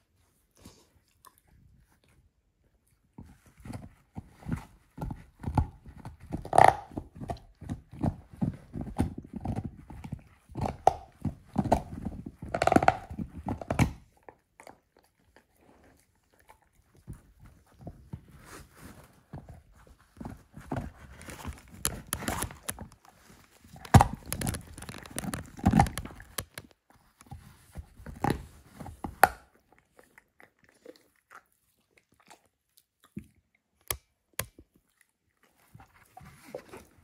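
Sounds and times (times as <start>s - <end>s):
dog crunching bone: 3.5s - 18.2s, 18.8s - 37.0s
dog gnawing: 3.5s - 37.0s.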